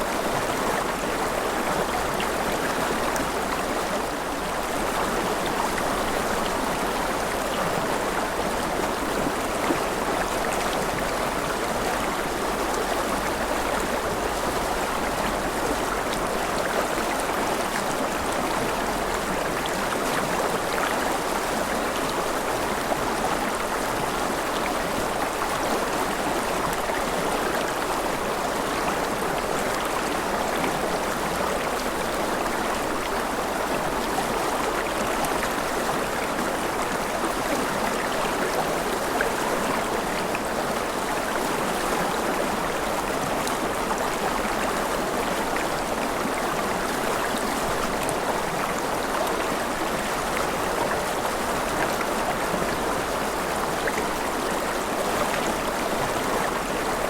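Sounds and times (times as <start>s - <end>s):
steady gentle rain: 0.0s - 57.0s.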